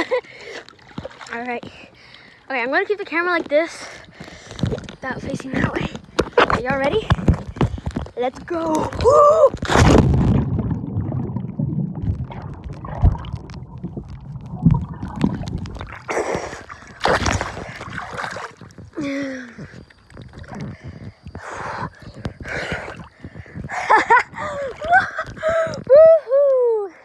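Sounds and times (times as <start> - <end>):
water splashing and sloshing: 0.0 - 26.0
muffled underwater bubbling: 4.0 - 26.0.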